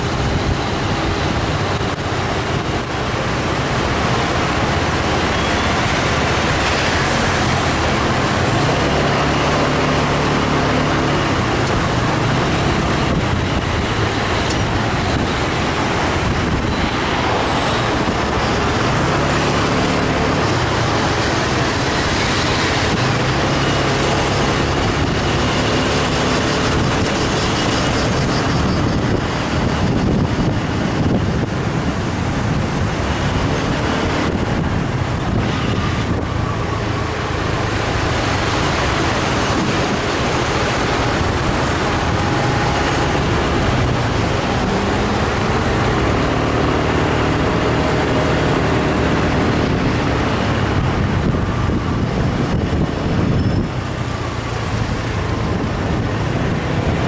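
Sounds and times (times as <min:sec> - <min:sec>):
car traffic: 0:00.0 - 0:57.0
road and air noise: 0:00.0 - 0:57.0.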